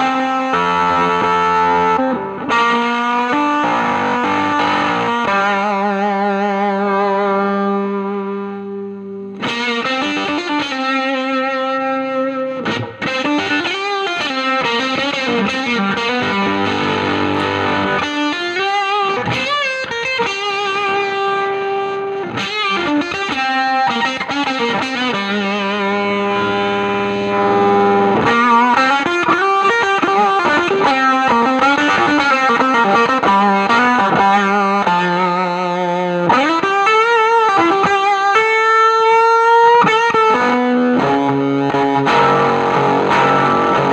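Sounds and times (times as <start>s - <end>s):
fuzzed electric guitar lead: 0.0s - 43.9s.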